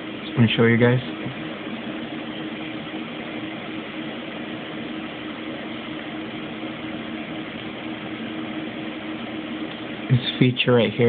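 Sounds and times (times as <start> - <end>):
low hum: 0.0 - 10.7.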